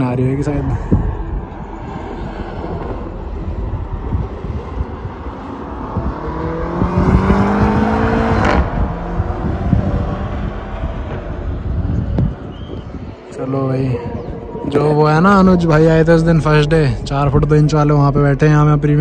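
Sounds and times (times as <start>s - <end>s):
low rumble: 0.0s - 19.0s
car engine accelerating: 0.1s - 19.0s.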